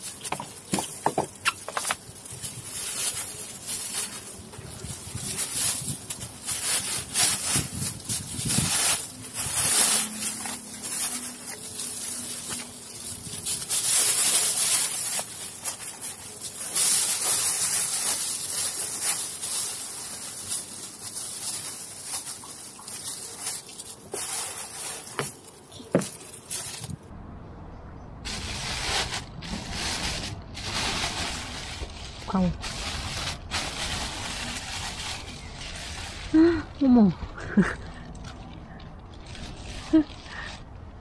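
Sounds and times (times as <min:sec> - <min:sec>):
plastic bag rustling and crinkling: 0:00.0 - 0:27.1, 0:28.2 - 0:41.0.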